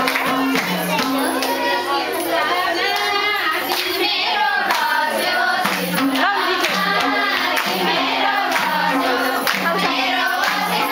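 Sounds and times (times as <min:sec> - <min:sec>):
dance song with singing: 0:00.0 - 0:10.9.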